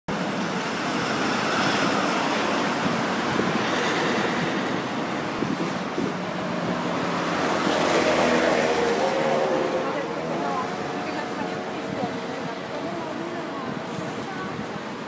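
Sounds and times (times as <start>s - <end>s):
passing city traffic: 0.1s - 15.0s.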